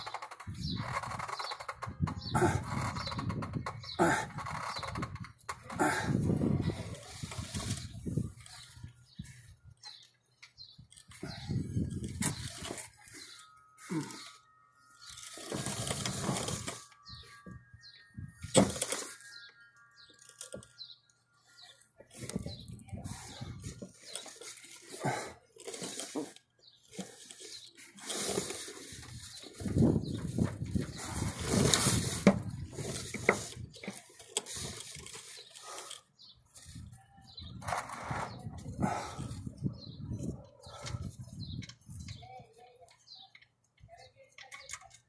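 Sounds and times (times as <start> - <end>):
birds chirping faintly: 0.0 - 45.0.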